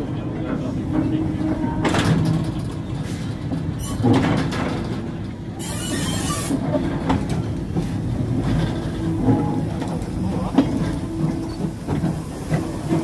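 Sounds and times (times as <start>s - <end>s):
train wheels clattering over rail joints: 1.8s - 13.0s.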